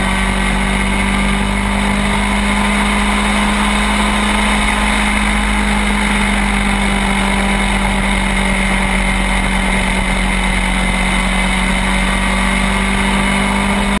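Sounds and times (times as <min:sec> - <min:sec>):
two-stroke kart engine running: 0:00.0 - 0:14.0
wind and road noise: 0:00.0 - 0:14.0.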